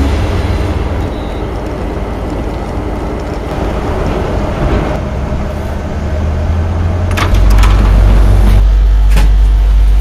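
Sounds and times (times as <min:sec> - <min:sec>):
low hum of standing trains: 0:00.0 - 0:10.0.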